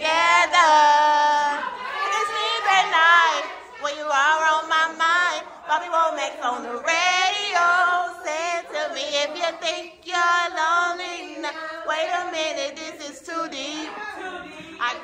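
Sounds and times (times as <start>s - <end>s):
woman singing unaccompanied: 0.0s - 15.0s.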